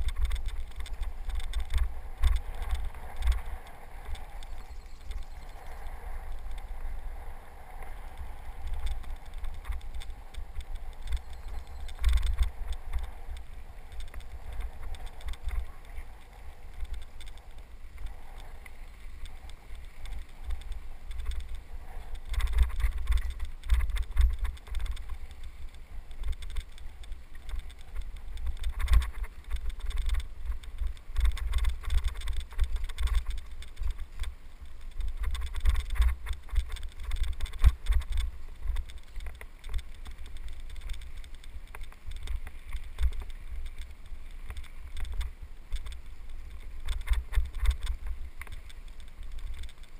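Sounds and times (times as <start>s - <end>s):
wind buffeting microphone: 0.0s - 49.8s.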